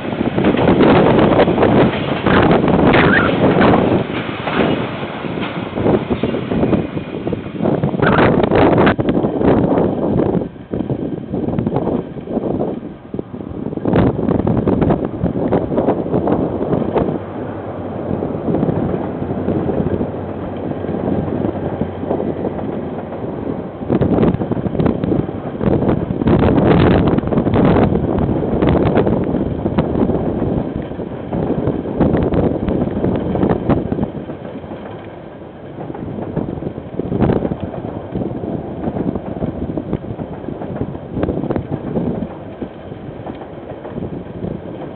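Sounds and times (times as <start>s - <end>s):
short train clacks: 0.0s - 9.1s, 14.8s - 44.9s
train wheels rumbling on rails: 0.0s - 44.9s
wind on microphone: 0.0s - 44.9s.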